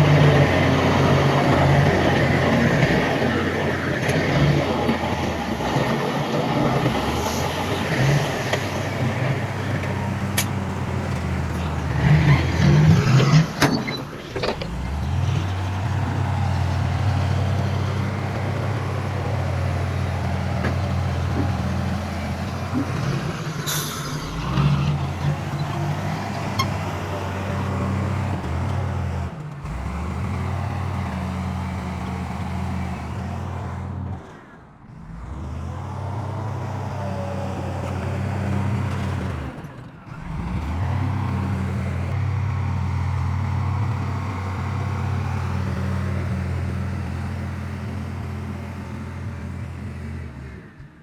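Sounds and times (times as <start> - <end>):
diesel earthmoving machinery running: 0.0 - 51.0.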